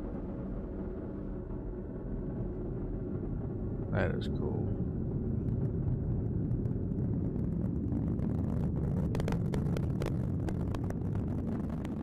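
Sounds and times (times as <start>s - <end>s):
rocket engine deep rumble: 0.0s - 12.0s.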